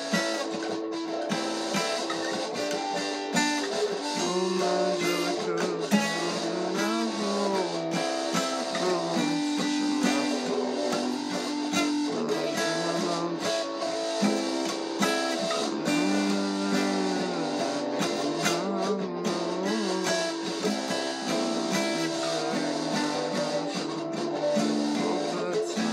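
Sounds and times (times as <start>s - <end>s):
acoustic guitar playing: 0.0s - 25.9s.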